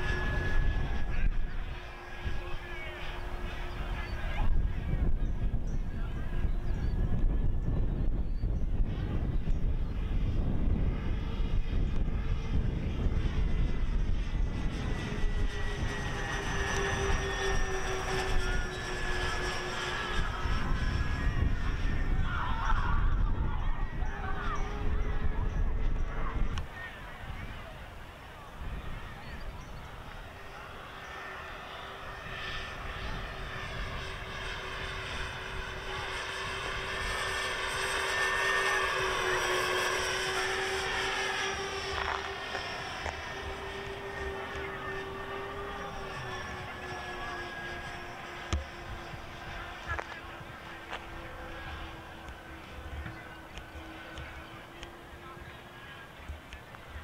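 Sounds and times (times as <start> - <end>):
model plane motors whining: 0.0 - 57.0
wind rumble on microphone: 0.0 - 57.0.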